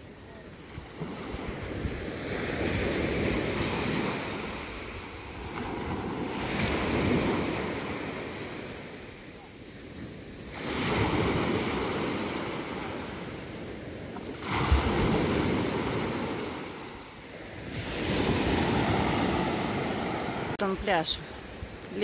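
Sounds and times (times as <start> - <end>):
waves breaking on beach: 0.0 - 22.0
wind on microphone: 0.8 - 22.0.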